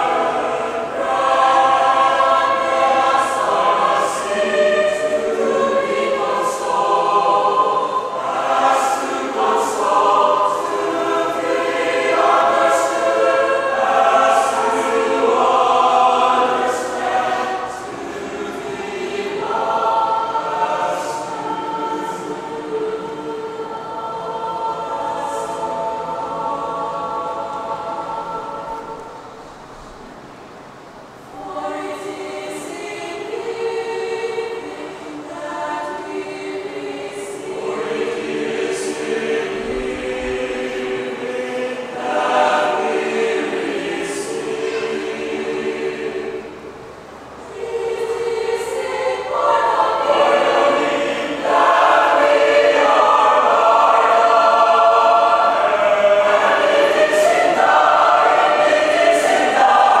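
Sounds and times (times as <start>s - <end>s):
mixed choir singing: 0.0s - 60.0s.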